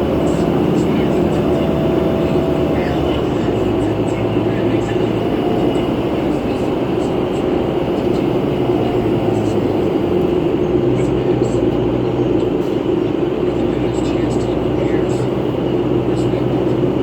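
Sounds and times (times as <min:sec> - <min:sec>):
bus interior drone: 0:00.0 - 0:17.0.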